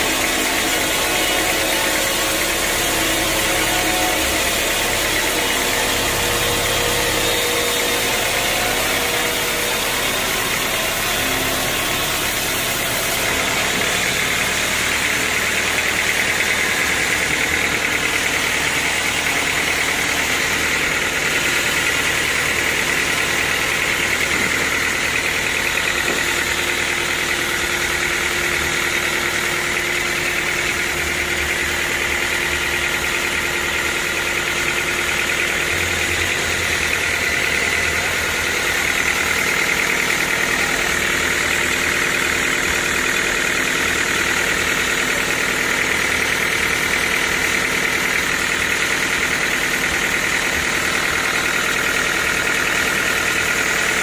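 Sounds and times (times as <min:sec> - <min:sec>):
band sawmill sawing log: 0:00.0 - 0:54.0.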